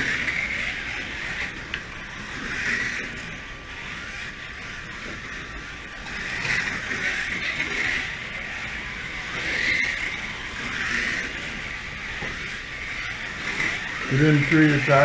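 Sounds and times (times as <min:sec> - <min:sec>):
slot cars whining: 0:00.0 - 0:15.0.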